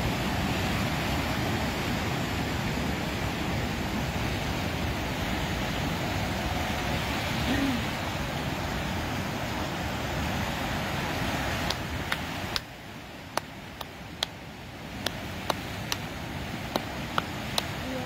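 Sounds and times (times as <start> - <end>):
ocean surf: 0.0 - 18.0
wind: 0.0 - 18.0.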